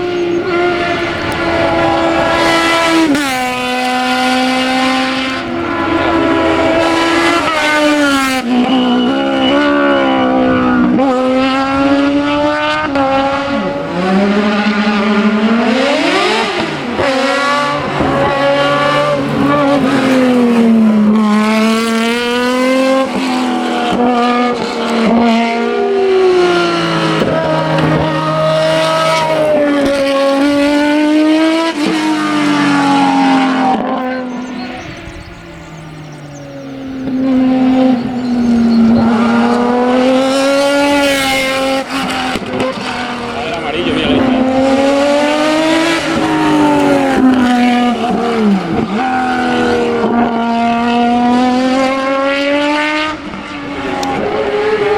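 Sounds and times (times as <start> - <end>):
racing car engine revving: 0.0 - 54.9.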